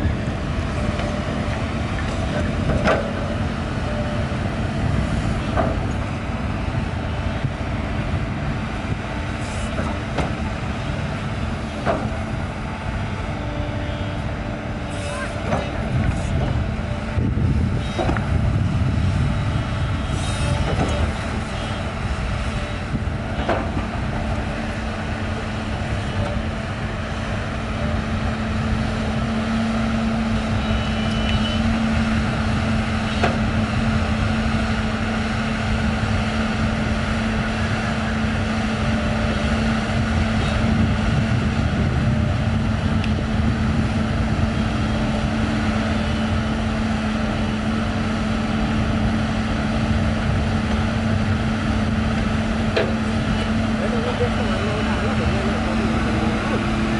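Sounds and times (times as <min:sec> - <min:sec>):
excavator diesel engine running: 0:00.0 - 0:56.9
excavator digging sand: 0:00.0 - 0:56.9.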